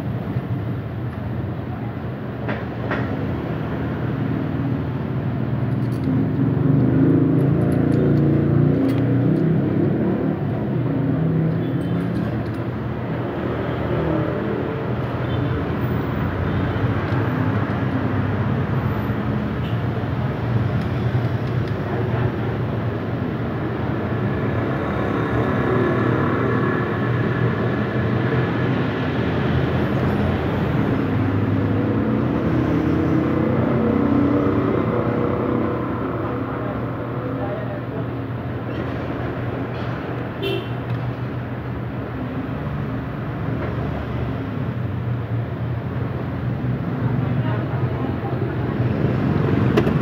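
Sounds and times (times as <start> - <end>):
road traffic rumble: 0.0 - 50.0.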